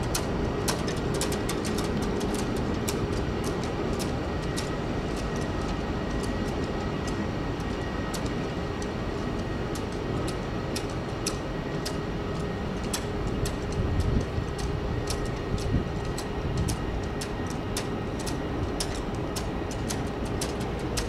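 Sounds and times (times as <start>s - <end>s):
jet engines rumbling: 0.0s - 21.0s
sharp ticks: 0.0s - 21.0s.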